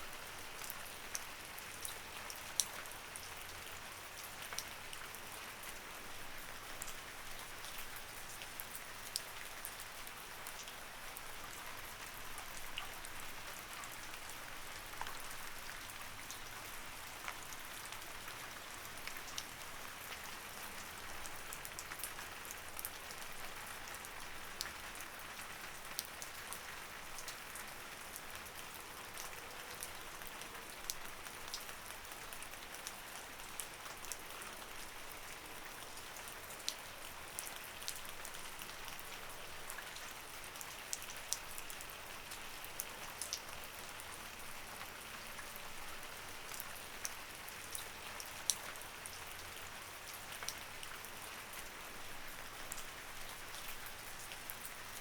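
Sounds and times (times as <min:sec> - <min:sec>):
raindrops ticking on a surface: 0:00.1 - 0:55.0.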